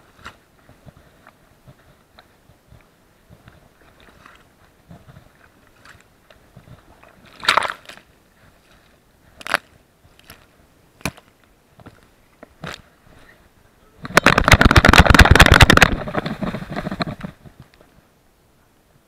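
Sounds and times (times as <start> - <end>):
crackly rustling and scraping: 0.0 - 18.1.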